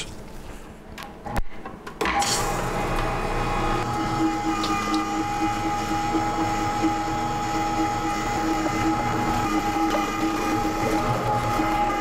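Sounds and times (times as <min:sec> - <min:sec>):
electric meat grinder whine: 0:02.1 - 0:12.0.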